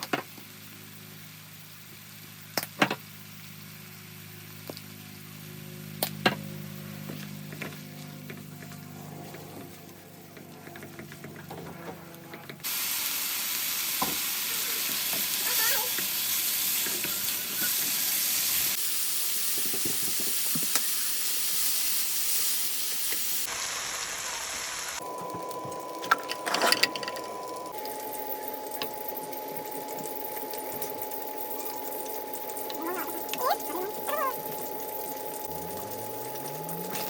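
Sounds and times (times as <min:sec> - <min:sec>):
food sizzling in a frying pan: 0:00.4 - 0:06.0, 0:12.6 - 0:37.0.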